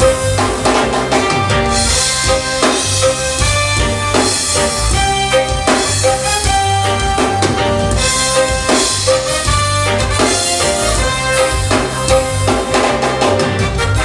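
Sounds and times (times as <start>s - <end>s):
reggae band playing: 0.0s - 14.0s.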